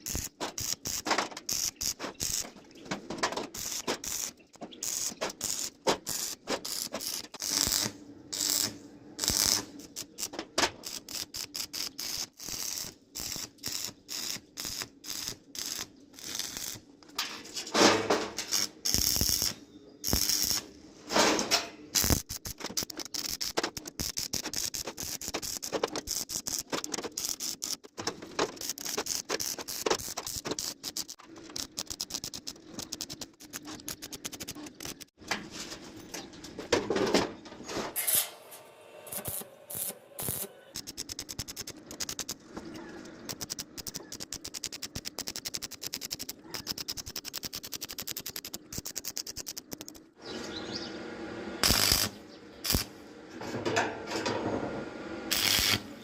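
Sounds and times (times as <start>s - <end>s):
arc welding crackle: 0.0s - 2.6s, 3.3s - 16.9s, 17.9s - 35.2s, 38.0s - 42.4s, 43.0s - 50.0s, 51.6s - 53.0s, 55.3s - 56.0s.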